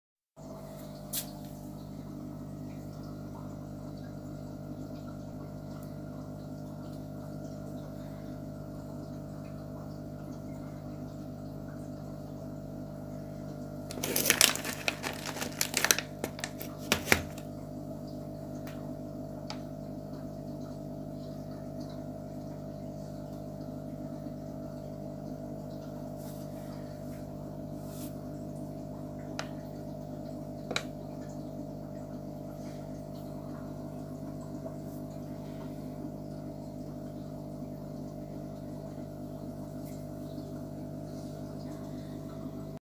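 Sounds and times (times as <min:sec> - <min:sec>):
aquarium filter pump humming: 0:00.4 - 0:42.8.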